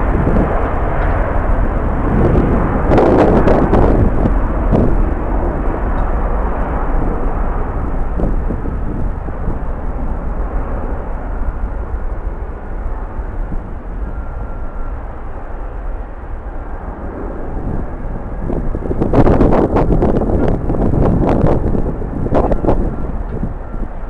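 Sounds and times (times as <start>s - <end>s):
jet airliner noise: 0.0s - 24.0s
wind rumble on microphone: 0.0s - 24.0s.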